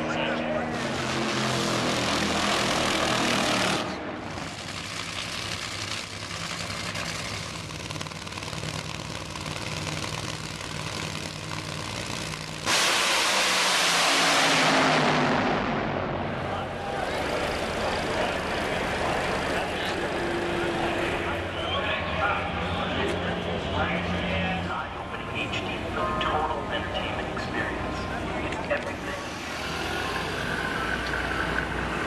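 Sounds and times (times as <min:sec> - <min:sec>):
drag racing engines roaring: 0:00.0 - 0:32.0
steady engine sound: 0:00.0 - 0:32.0.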